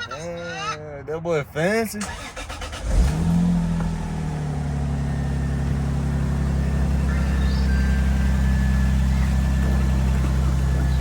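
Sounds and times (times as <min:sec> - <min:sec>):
car engine idling: 0:02.0 - 0:11.0.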